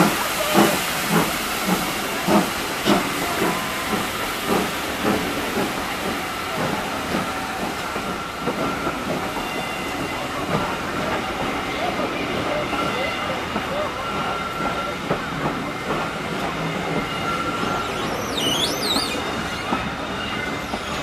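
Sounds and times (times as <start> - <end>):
steady hiss of steam: 0.0 - 21.0
steam locomotive exhaust beats: 0.0 - 21.0.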